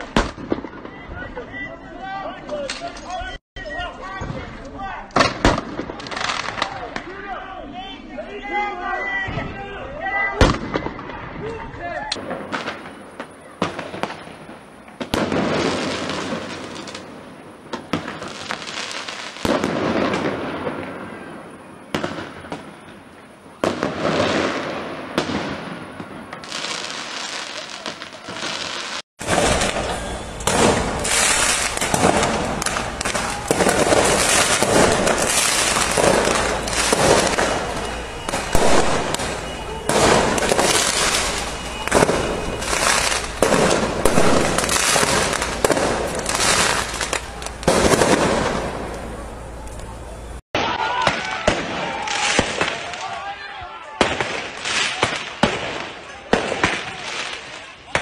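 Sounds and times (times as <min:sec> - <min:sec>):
fireworks launching and banging: 0:00.0 - 0:01.5, 0:04.0 - 0:07.3, 0:10.2 - 0:58.0
fireworks crackling: 0:00.0 - 0:01.6, 0:02.5 - 0:09.2, 0:10.1 - 0:58.0.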